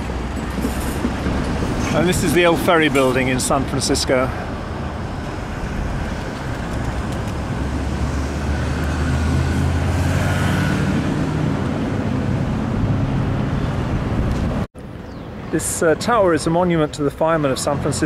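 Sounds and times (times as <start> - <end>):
vehicle engine hum passing close: 0.0 - 14.7
road traffic passing: 0.0 - 18.0.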